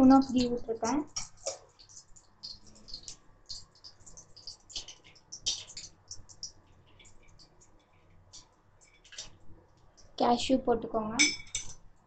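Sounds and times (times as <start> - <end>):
ghee sizzling and spitting: 0.0 - 10.2.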